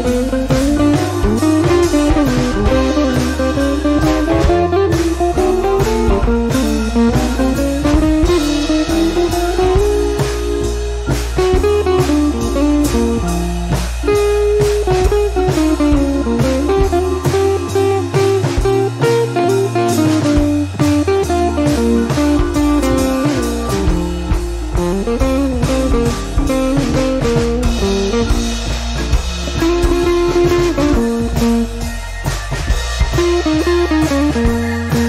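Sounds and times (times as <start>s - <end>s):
blues instrumental music: 0.0s - 35.0s.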